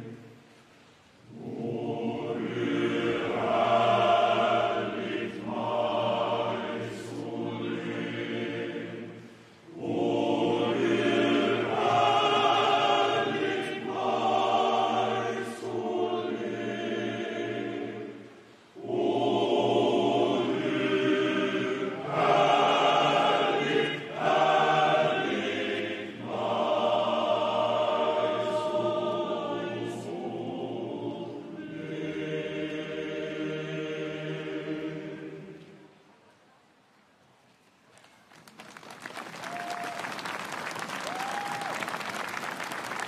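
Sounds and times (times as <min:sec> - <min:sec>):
male choir singing: 0:01.3 - 0:35.8.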